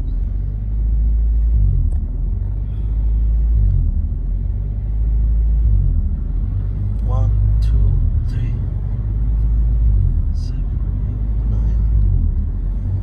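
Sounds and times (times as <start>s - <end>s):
low uneven rumble: 0.0s - 13.0s.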